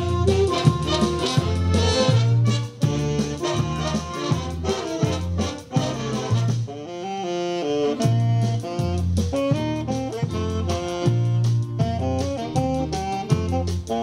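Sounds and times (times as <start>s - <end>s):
bass line: 0.0s - 14.0s
steady beat: 0.0s - 14.0s
wind instrument melody: 0.0s - 14.0s.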